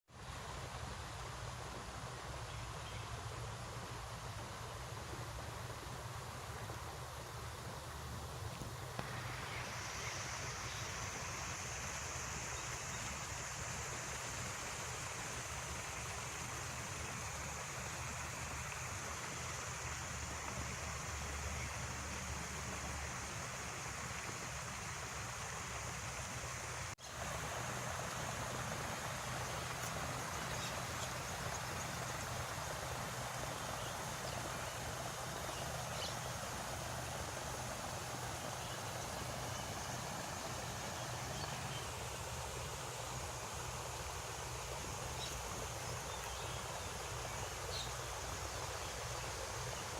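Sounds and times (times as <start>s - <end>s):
running water rushing: 0.1s - 49.9s.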